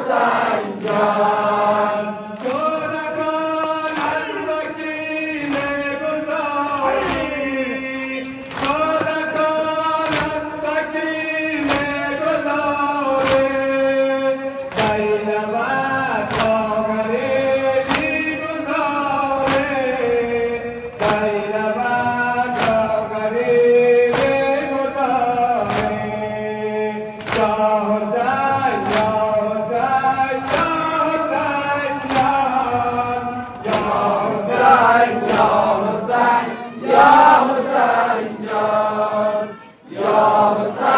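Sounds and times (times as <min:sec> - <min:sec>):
men chanting a lament: 0:00.0 - 0:40.9.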